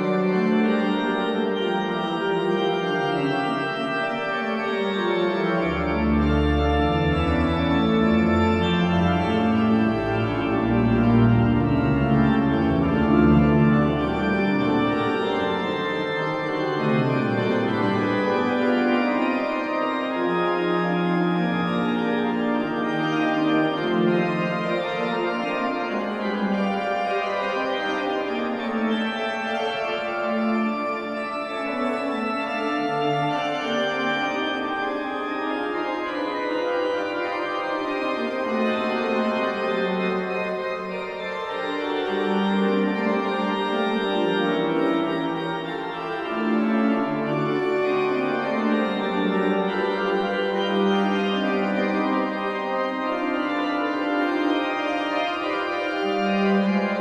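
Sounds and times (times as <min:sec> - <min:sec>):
deep organ pedal notes: 0:00.0 - 0:57.0
pipe organ playing classical piece: 0:00.0 - 0:57.0.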